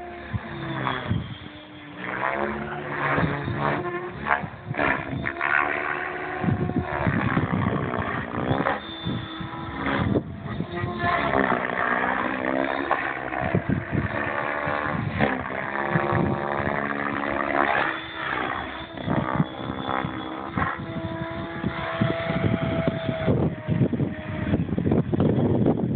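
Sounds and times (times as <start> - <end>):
model helicopter rotor whine: 0.0 - 25.9.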